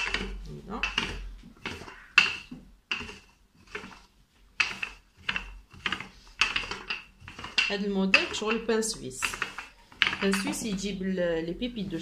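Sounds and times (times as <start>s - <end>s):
rolling pin rolling over dough: 0.0s - 12.0s.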